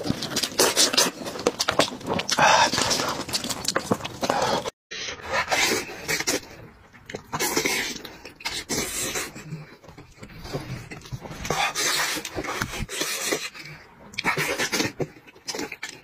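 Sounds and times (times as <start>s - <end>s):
person chewing and lip-smacking: 0.0s - 4.7s, 5.6s - 16.0s.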